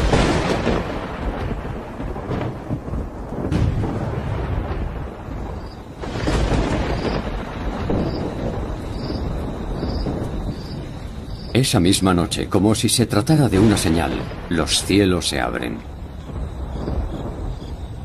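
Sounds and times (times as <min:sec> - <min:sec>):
sharp thunder crack: 0:00.0 - 0:18.0
thunder rumbling: 0:00.0 - 0:18.0.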